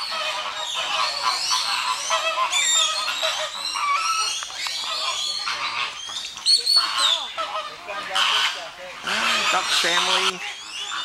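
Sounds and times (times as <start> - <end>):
chorus of birds calling: 0.0 - 11.0.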